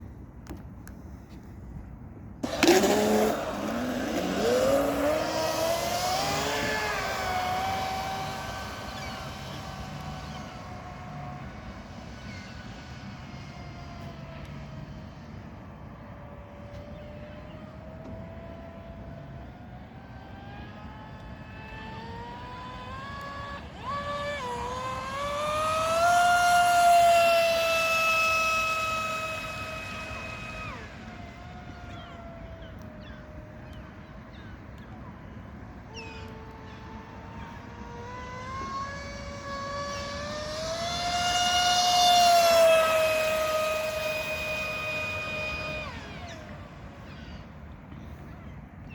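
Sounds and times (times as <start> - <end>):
electric motor whine: 2.4 - 48.5.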